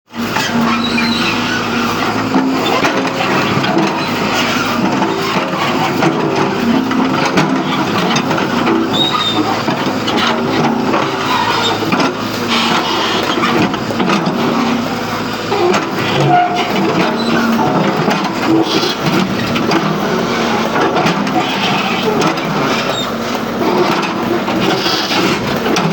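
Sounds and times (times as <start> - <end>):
diesel earthmoving machinery running: 0.1 - 25.9
knocks and clanks: 0.3 - 25.9.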